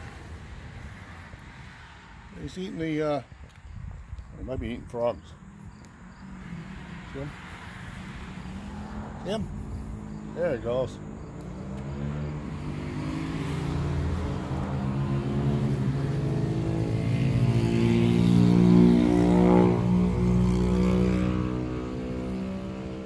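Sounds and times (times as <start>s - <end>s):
engine passing by: 4.4s - 23.0s.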